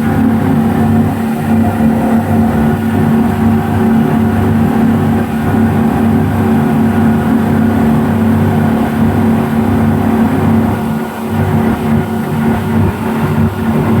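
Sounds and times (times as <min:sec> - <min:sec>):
speedboat engines running: 0:00.0 - 0:14.0.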